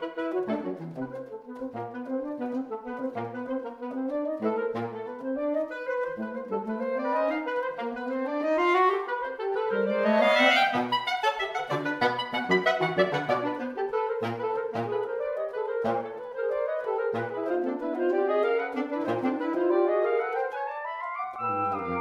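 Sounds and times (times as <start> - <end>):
saxophone quartet playing: 0.0 - 22.0.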